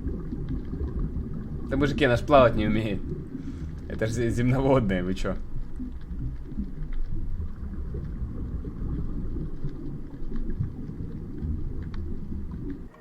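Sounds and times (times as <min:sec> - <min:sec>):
underwater rumble: 0:00.0 - 0:13.0.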